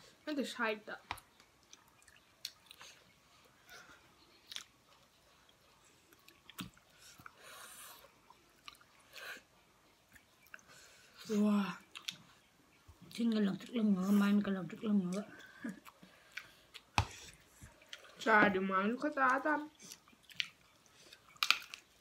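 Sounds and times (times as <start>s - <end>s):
faint chewing: 1.1s - 18.3s, 19.0s - 22.0s.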